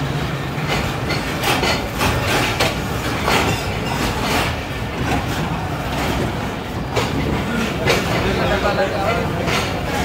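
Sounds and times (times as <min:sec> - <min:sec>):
train rail rumble: 0:00.0 - 0:10.0
wheel clacks: 0:00.5 - 0:10.0.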